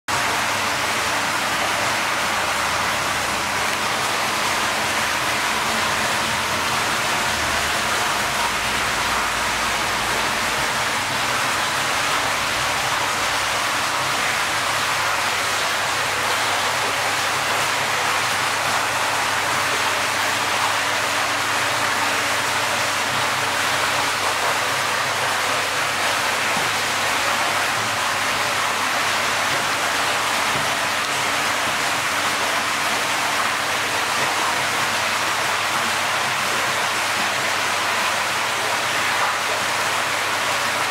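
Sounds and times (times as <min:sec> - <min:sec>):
running water splashing: 0:00.1 - 0:40.9.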